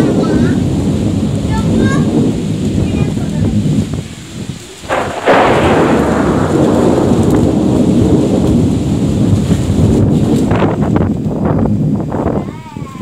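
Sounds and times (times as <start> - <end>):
rain: 0.0 - 13.0
thunder crack and rumble: 0.0 - 13.0.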